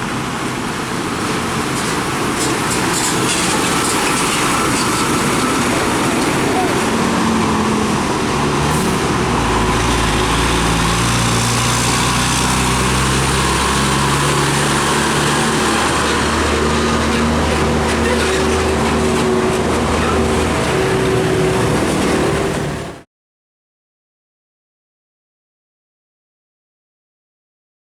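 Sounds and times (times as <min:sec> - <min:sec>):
diesel truck engines droning: 0:00.0 - 0:23.0
tyre and traffic noise: 0:00.0 - 0:23.0.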